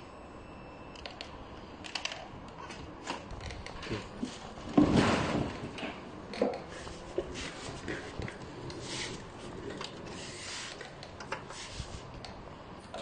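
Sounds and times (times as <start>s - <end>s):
cables rubbing and rustling: 2.0s - 12.5s.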